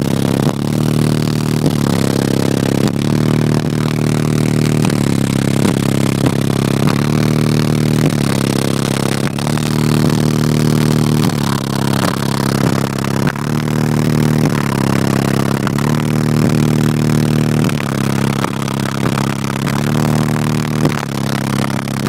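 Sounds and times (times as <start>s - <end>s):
loud subwoofer bass notes: 0.0s - 22.0s.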